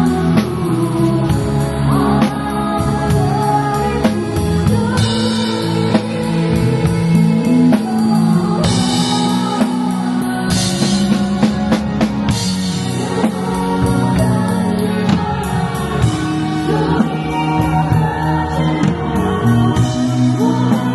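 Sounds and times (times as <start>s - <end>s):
live band playing: 0.0s - 20.9s
person singing: 0.0s - 20.9s.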